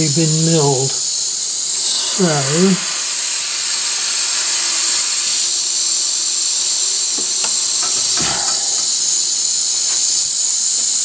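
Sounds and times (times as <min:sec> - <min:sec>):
compressed air jet hissing: 0:00.0 - 0:11.0.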